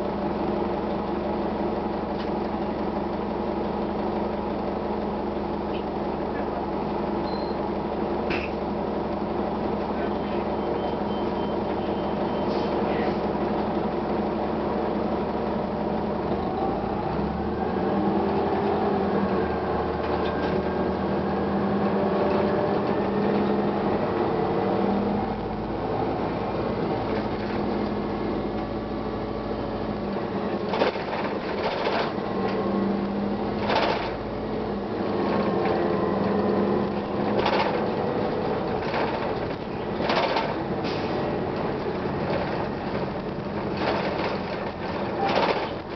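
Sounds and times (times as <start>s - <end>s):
bus diesel engine drone: 0.0s - 45.9s.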